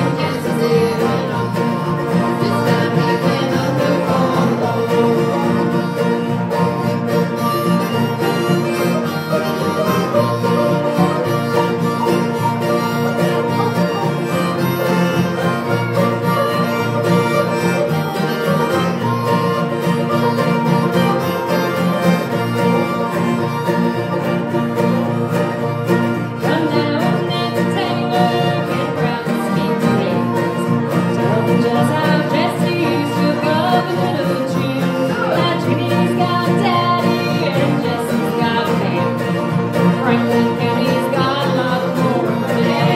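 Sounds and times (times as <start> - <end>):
bluegrass band playing: 0.0 - 42.9.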